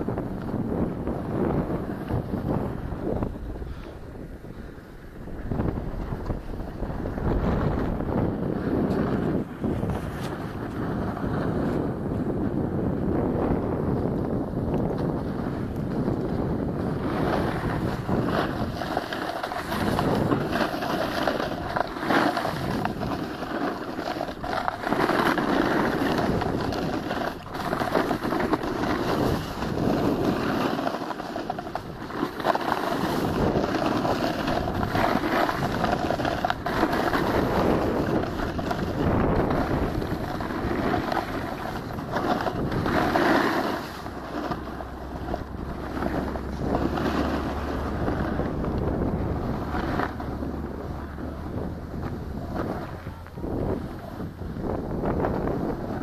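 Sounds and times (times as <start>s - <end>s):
snowboard scraping over snow: 0.0s - 56.0s
wind rushing over microphone: 0.0s - 56.0s.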